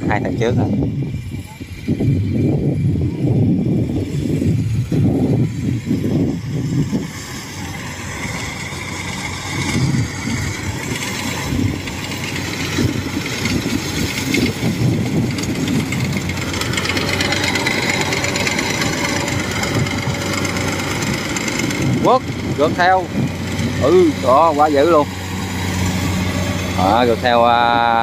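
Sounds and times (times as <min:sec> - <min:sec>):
combine harvester machinery din: 0:00.0 - 0:28.0
steady mechanical whine: 0:00.0 - 0:28.0.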